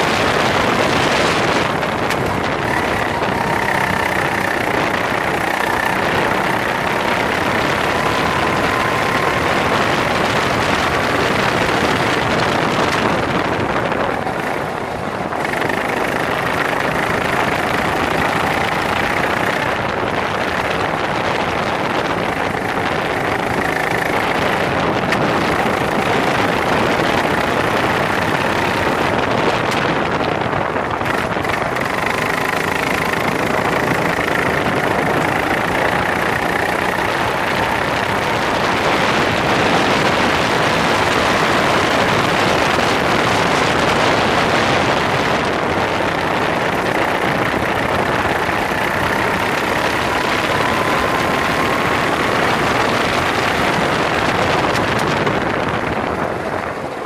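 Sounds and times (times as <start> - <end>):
kart engine revving: 0.0 - 57.0
wind noise on microphone: 0.0 - 57.0.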